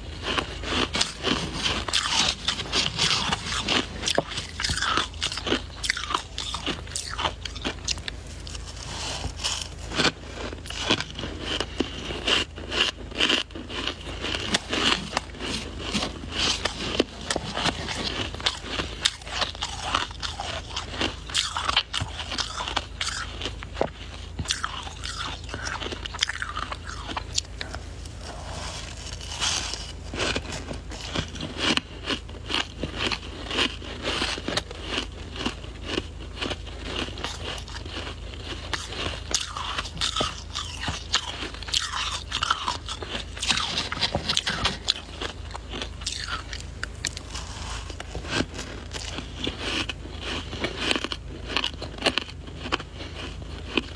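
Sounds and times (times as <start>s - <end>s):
chewing crunchy ice: 0.0s - 53.9s.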